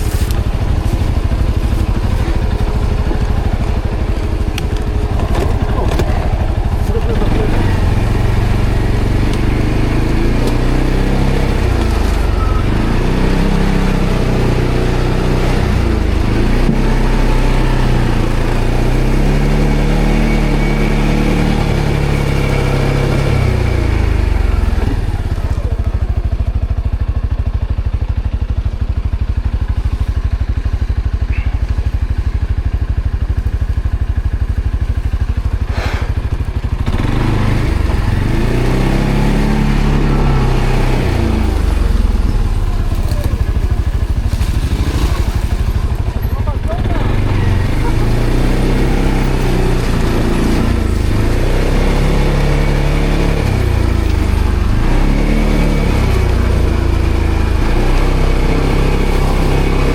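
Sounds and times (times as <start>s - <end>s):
atv engine revving and idling: 0.0s - 59.9s.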